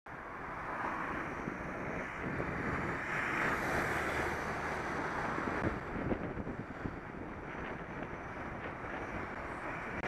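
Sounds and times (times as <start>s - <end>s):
wind rushing over microphone: 0.1s - 10.0s.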